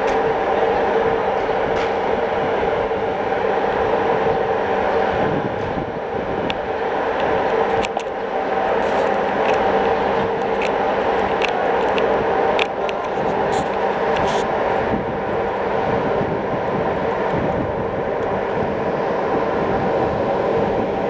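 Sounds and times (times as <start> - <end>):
electric locomotive humming: 0.0 - 21.0.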